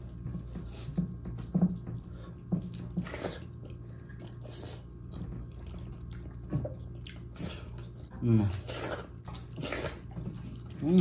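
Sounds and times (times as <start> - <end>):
food mixed and chewed: 0.0 - 11.0
steady low hum: 0.0 - 11.0.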